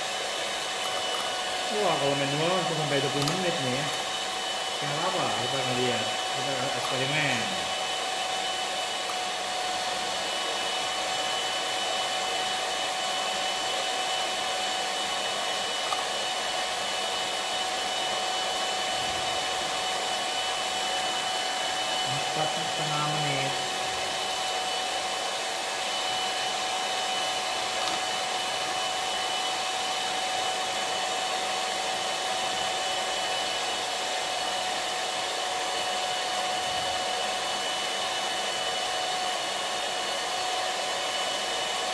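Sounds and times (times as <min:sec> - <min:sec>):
electric hand mixer running: 0:00.0 - 0:41.9.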